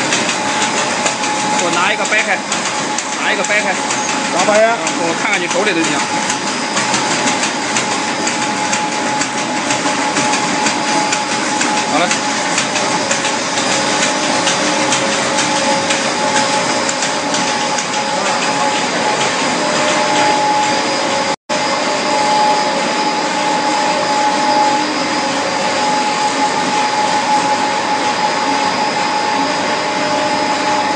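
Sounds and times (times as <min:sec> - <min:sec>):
constant machine whine: 0:00.0 - 0:30.9
machinery whirring: 0:00.0 - 0:30.9.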